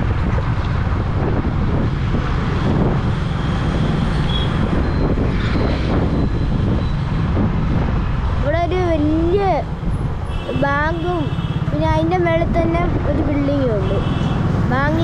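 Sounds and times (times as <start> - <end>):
vehicle engine and road noise: 0.0 - 15.0
wind rushing over microphone: 0.0 - 15.0.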